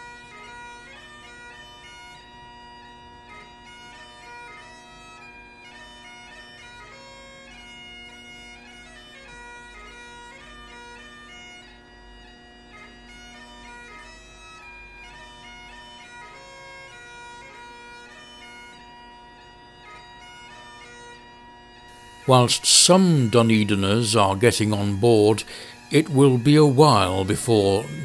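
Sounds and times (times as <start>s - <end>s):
bagpipe drone and melody: 0.0s - 28.0s.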